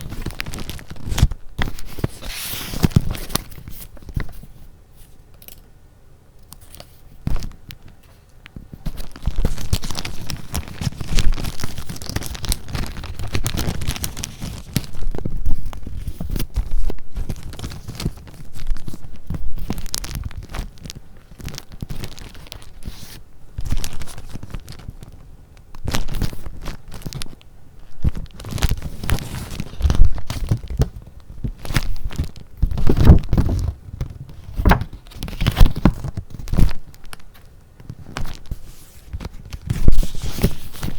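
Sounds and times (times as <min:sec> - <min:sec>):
paper rustling and crinkling: 0:00.0 - 0:05.2, 0:06.5 - 0:40.9.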